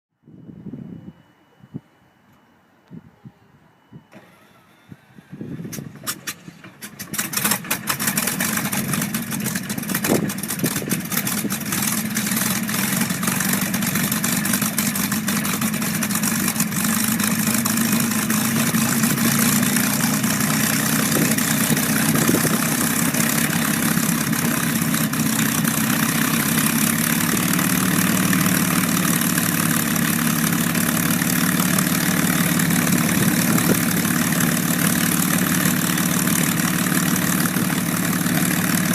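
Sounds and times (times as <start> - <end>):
aircraft engine starting: 3.9 - 38.9.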